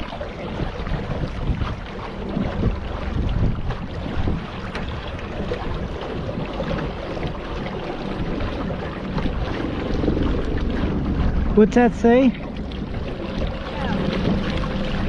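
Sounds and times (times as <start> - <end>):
water rushing around boat: 0.0 - 15.0
wind buffeting microphone: 0.0 - 15.0.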